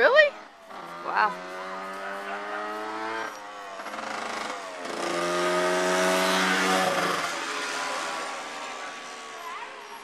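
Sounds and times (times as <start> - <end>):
motorcycle engine running hard: 0.0 - 10.0.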